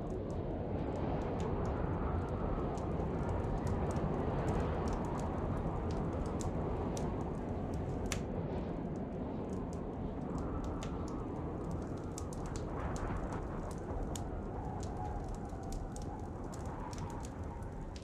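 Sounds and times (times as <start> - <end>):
fire pops and snaps: 0.0 - 18.0
wood fire crackling: 0.0 - 18.0.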